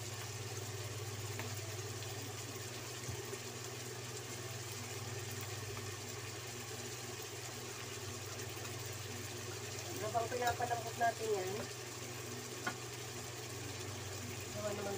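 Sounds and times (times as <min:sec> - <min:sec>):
food sauteing in a wok: 0:00.0 - 0:14.9
low electrical hum: 0:00.0 - 0:14.9.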